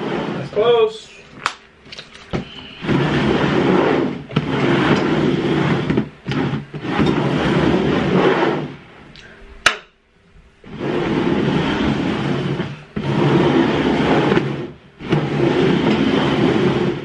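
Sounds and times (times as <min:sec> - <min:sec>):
plastic bowls scraping on table: 0:01.3 - 0:08.8, 0:10.6 - 0:17.0.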